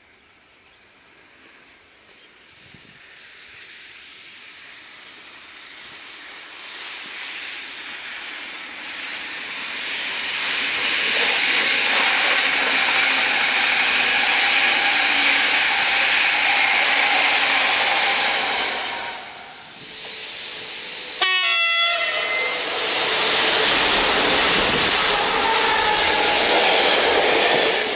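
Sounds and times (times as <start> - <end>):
passenger train passing at speed: 0.2 - 27.9.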